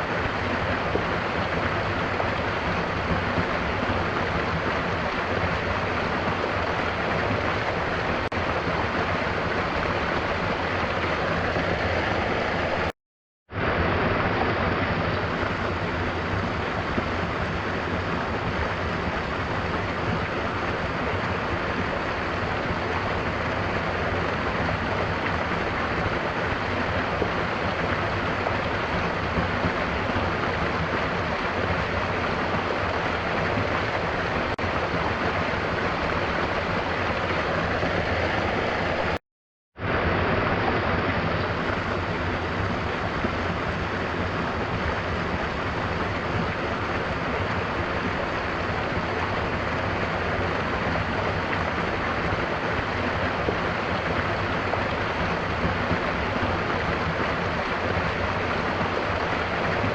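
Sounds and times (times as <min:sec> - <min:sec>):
gentle rain: 0:00.0 - 0:12.9, 0:13.5 - 0:39.2, 0:39.8 - 0:59.9
waterfall rushing: 0:00.0 - 0:12.9, 0:13.6 - 0:39.2, 0:39.8 - 0:59.9.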